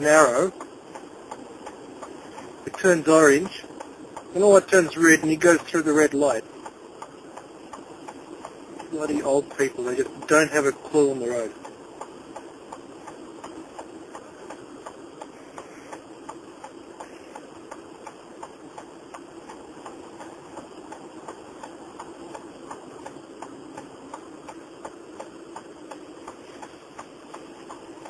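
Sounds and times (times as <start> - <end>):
car cabin hum: 0.0 - 28.0
turn signal clicking: 0.5 - 28.0.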